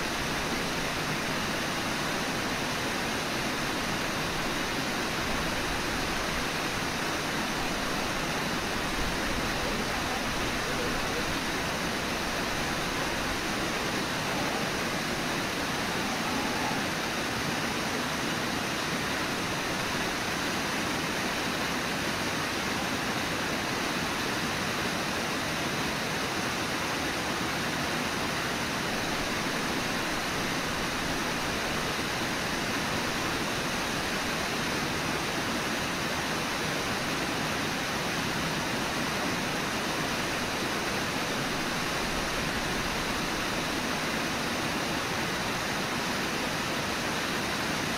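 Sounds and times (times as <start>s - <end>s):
whitewater rushing: 0.0s - 47.9s.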